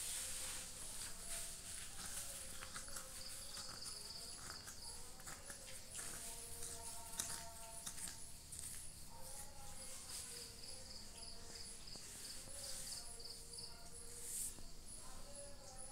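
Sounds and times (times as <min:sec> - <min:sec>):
insects chirping: 0:00.4 - 0:15.9.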